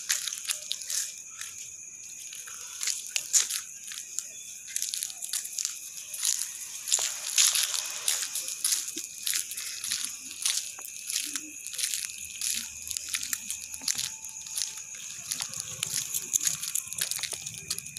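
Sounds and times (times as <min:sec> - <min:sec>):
footsteps on sandy road: 0:00.0 - 0:17.9
high-pitched hiss: 0:00.0 - 0:17.9.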